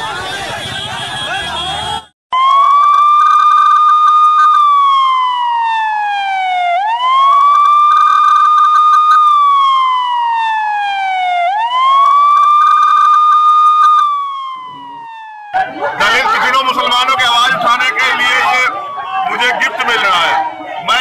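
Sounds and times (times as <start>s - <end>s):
electronic siren wailing: 0.1s - 21.0s.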